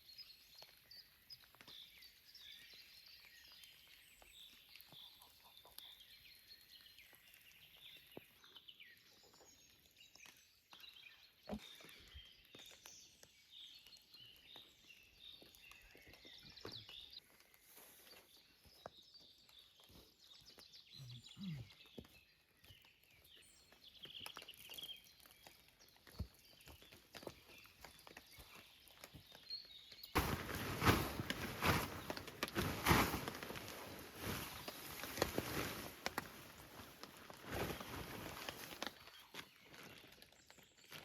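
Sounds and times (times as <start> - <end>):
birdsong chirps and trills: 0.0 - 41.0.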